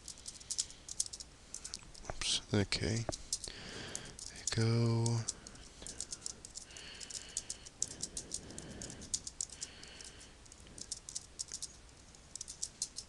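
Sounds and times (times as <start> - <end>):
fast typing on keyboard: 0.1 - 1.8, 3.3 - 13.0.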